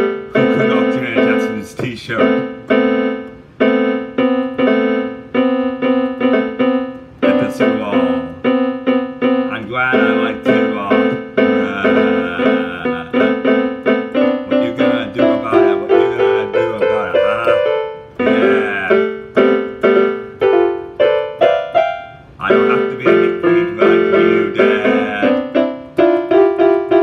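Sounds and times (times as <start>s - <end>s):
piano-like keyboard chords: 0.0s - 27.0s.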